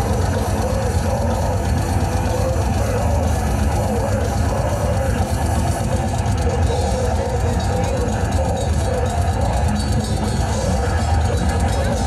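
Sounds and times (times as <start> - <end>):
death metal band playing live: 0.0 - 12.0.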